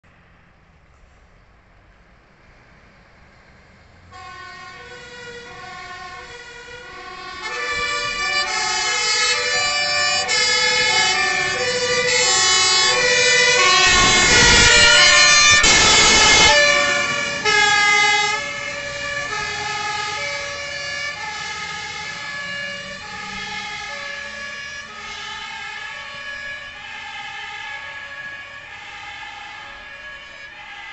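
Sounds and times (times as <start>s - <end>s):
truck engine and road noise: 0.0s - 30.9s
fire engine two-tone sirens: 4.0s - 30.9s.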